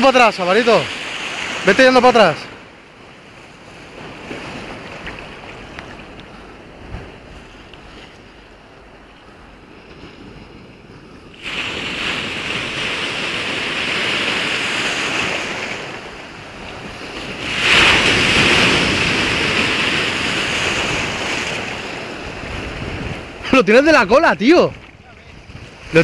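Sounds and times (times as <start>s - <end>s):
sea waves surging: 0.0s - 26.0s.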